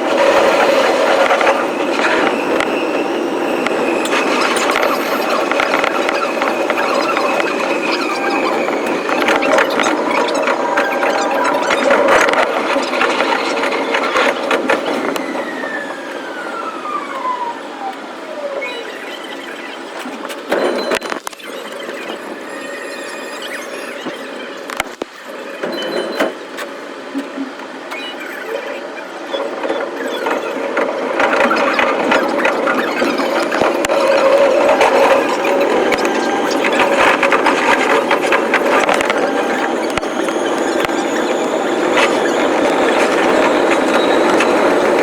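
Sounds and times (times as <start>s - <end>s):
train wheels rattling on rails: 0.0s - 21.2s, 28.9s - 45.0s
steady squealing tone: 0.0s - 45.0s.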